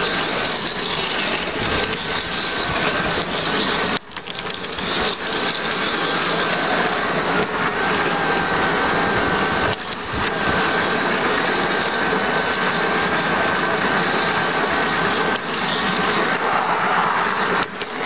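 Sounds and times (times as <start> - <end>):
model train motor whine: 0.0 - 18.0
wheels rattling on rails: 0.0 - 18.0.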